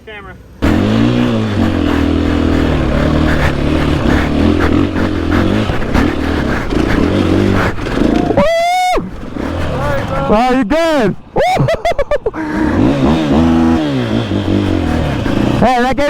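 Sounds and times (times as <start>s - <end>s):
dirt bike engine revving: 0.6s - 16.0s.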